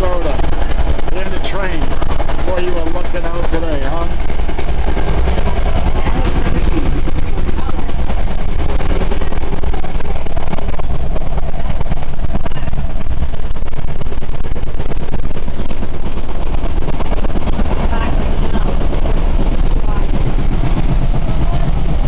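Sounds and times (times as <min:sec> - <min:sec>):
regular clicking of train wheels: 0:00.0 - 0:22.0
wheel and rail rumble: 0:00.0 - 0:22.0.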